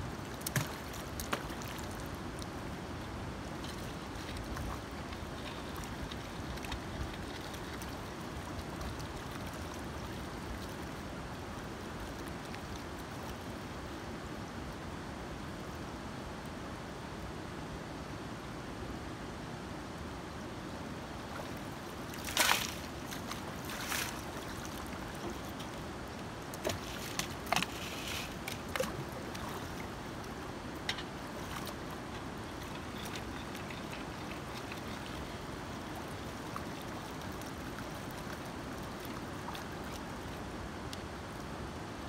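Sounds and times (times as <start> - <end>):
shallow river water running: 0.0 - 42.0
water splashes: 0.1 - 14.0, 21.0 - 41.6.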